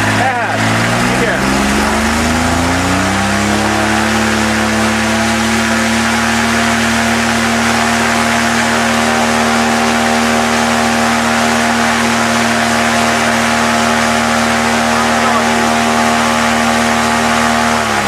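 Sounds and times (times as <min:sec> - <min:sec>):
engine running at high revs: 0:00.0 - 0:18.0
propeller: 0:00.0 - 0:18.0.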